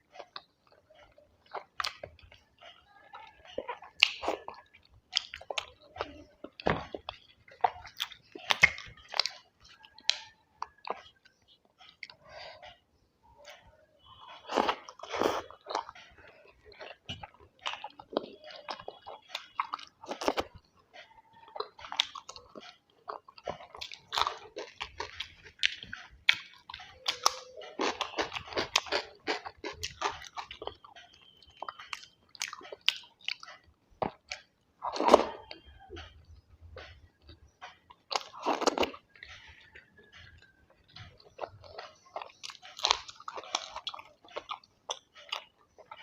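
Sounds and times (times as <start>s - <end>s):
person chewing and biting food: 0.0s - 2.4s, 3.1s - 12.8s, 13.5s - 46.0s.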